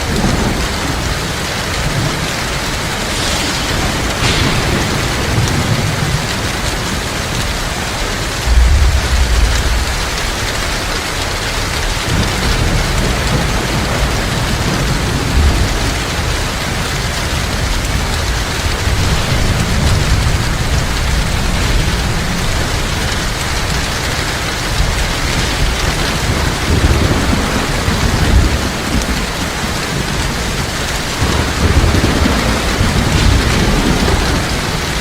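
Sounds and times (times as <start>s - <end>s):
heavy rain: 0.0s - 35.0s
low thunder rumbling: 0.0s - 35.0s.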